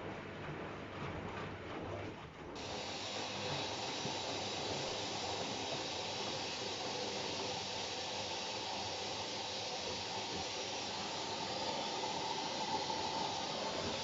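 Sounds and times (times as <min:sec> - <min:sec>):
water rushing into drum: 0:02.6 - 0:14.0.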